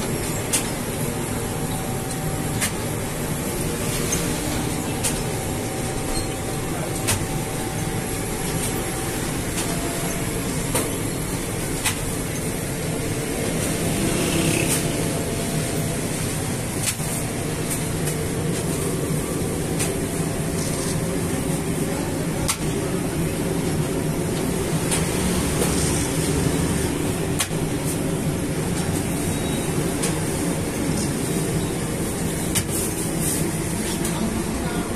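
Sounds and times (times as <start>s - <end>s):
machinery mechanical hum: 0.0s - 34.9s.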